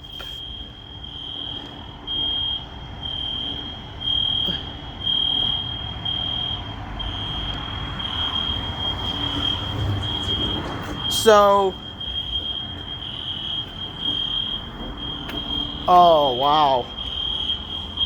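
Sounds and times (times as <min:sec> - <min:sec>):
fire alarm pulsing tone: 0:00.0 - 0:18.0.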